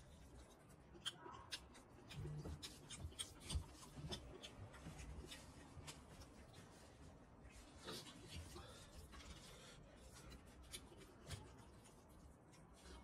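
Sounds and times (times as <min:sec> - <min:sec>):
man chewing: 0:00.0 - 0:06.8, 0:07.8 - 0:13.0.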